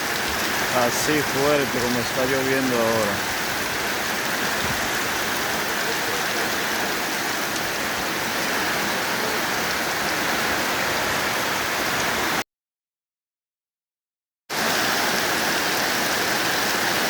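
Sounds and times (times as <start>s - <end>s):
heavy rain pouring: 0.0s - 12.4s, 14.5s - 17.0s.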